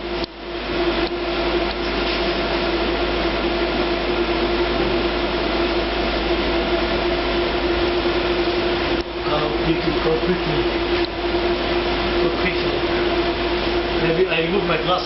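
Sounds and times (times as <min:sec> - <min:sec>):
constant droning tone: 0:00.0 - 0:15.0.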